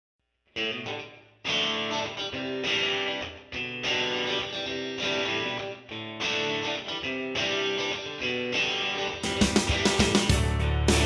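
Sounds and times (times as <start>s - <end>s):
strummed guitar chords: 0.6s - 11.0s.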